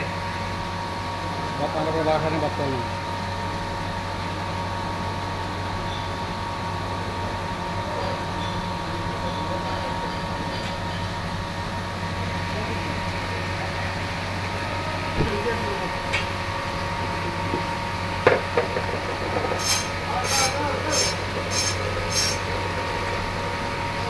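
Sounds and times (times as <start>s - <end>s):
mechanical hum with whine: 0.0s - 24.0s.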